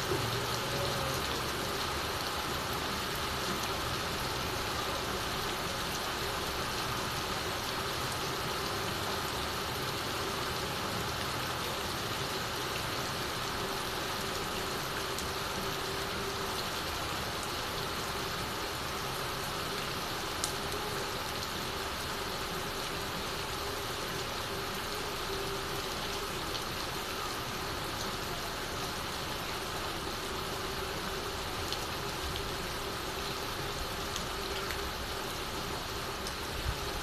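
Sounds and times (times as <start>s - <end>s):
heavy rain on a tiled roof: 0.0s - 37.0s.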